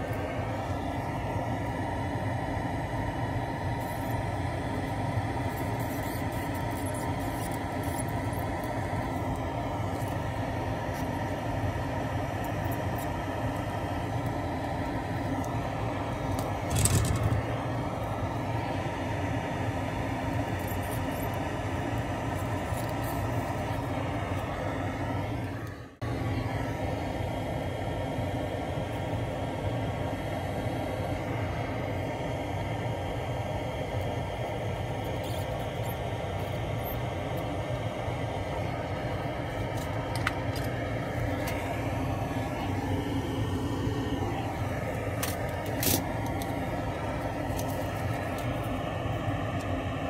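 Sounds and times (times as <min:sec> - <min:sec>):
mechanical hum and rumble: 0:00.0 - 0:50.0.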